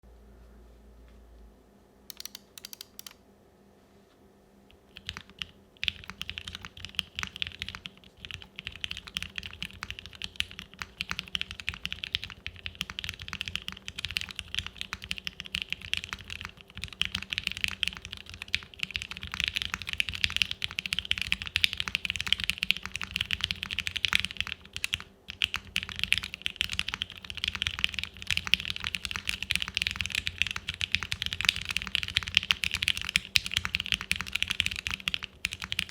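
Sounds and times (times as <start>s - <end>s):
fast mechanical keyboard typing: 2.1s - 3.2s, 4.8s - 35.9s.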